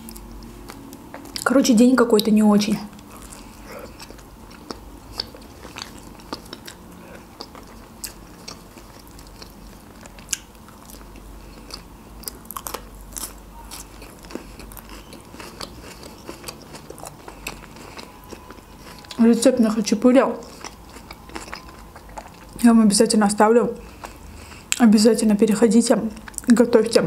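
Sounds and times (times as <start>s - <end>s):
close chewing of bread: 0.0s - 23.2s, 23.8s - 24.9s, 26.1s - 26.7s.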